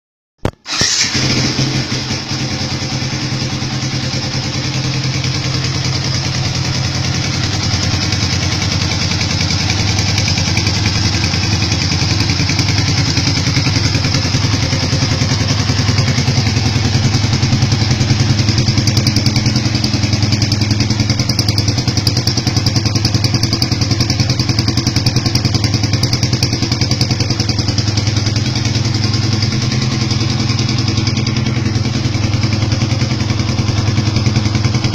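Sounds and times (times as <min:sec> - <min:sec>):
motorcycle engine idling: 0:00.7 - 0:34.9.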